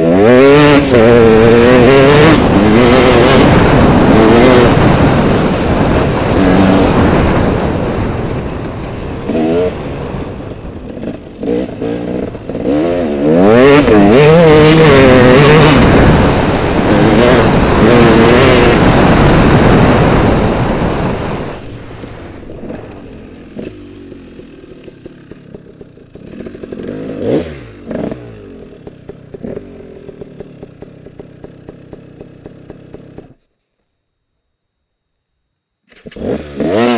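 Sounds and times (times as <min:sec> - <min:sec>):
dirt bike engine revving: 0:00.0 - 0:33.4, 0:35.9 - 0:36.9.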